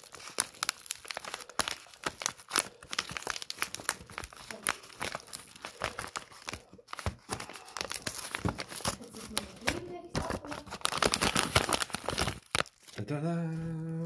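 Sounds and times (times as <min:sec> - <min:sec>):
packaging torn and crinkled: 0:00.0 - 0:14.0.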